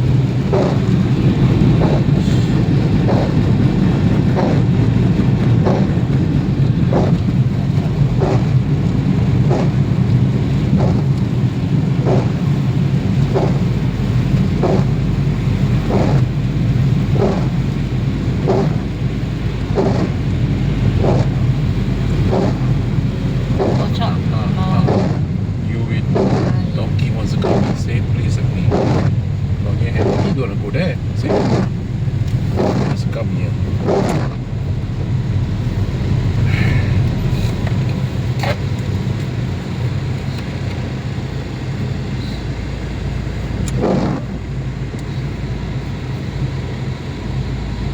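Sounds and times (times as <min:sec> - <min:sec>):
short regular repeating sound: 0:00.0 - 0:38.4
engine and road rumble: 0:00.0 - 0:47.9
rain: 0:00.0 - 0:47.9.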